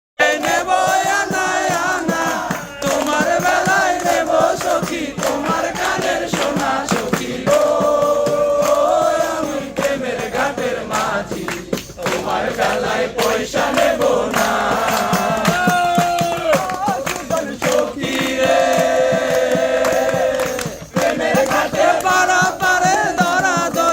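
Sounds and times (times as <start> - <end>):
group of people singing: 0.2 - 23.9.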